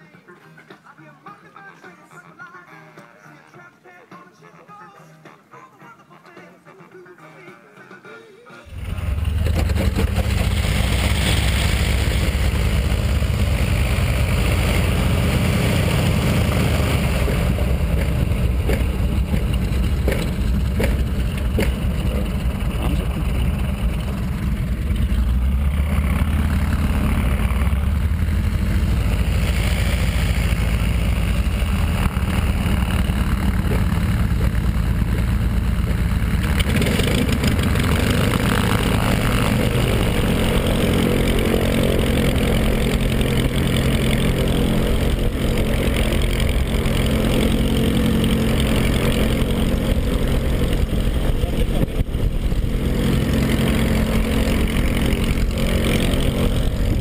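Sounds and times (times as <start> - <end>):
aircraft engine and propeller running: 8.6 - 57.0.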